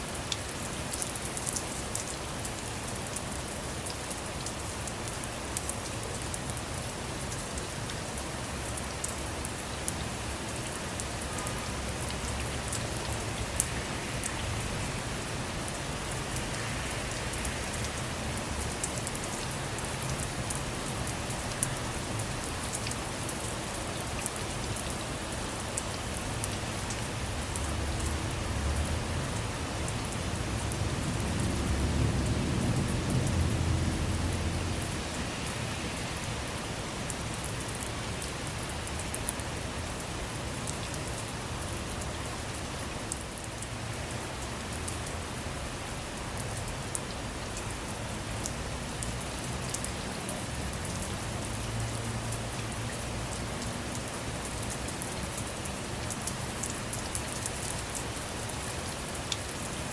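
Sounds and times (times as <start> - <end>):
rain on car roof: 0.1 - 59.5.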